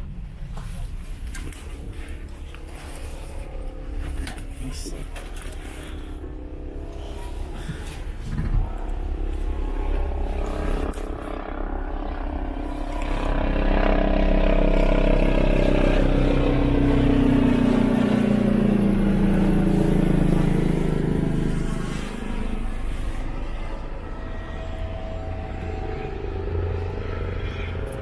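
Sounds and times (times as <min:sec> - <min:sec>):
engine drone: 0:00.0 - 0:28.0
low rumble: 0:00.0 - 0:28.0.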